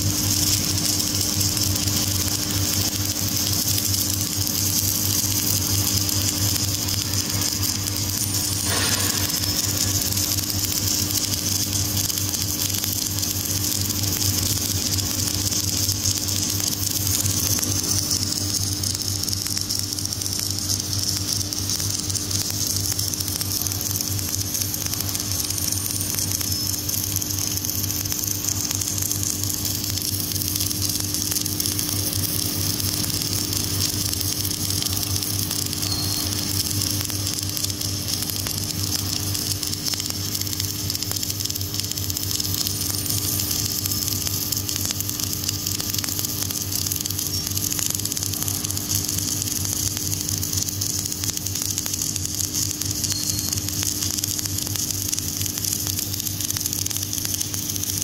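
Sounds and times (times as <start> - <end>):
welding arc crackling hiss: 0.0 - 58.0
welding machine hum: 0.0 - 58.0.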